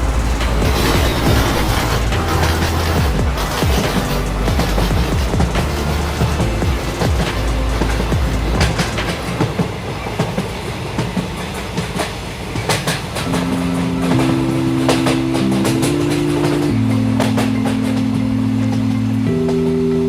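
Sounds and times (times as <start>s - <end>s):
held music chords: 0.0s - 10.4s, 13.2s - 20.0s
train wheels clacking on rail joints: 0.0s - 19.6s
train rumble: 0.0s - 20.0s.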